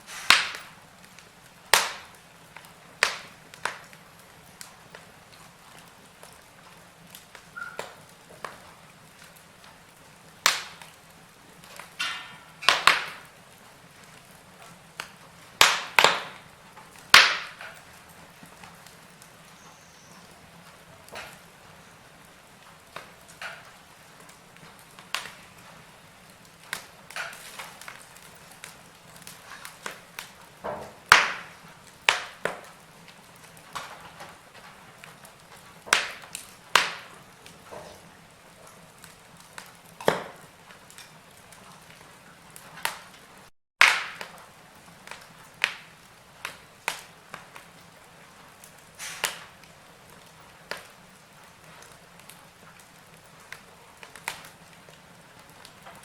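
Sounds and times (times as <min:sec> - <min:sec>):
low steady fire hiss: 0:00.0 - 0:56.0
wood fire crackling: 0:00.0 - 0:56.0.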